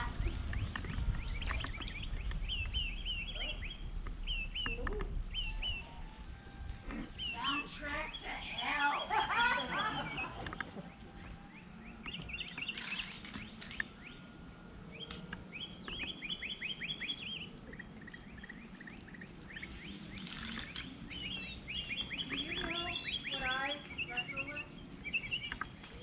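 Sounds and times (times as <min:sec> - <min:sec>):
faint outdoor background noise: 0:00.0 - 0:26.0
songbird whistling: 0:00.0 - 0:26.0.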